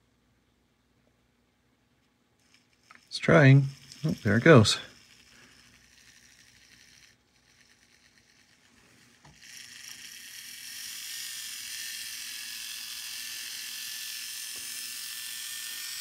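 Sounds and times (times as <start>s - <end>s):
electric motor whirring: 2.4s - 16.0s.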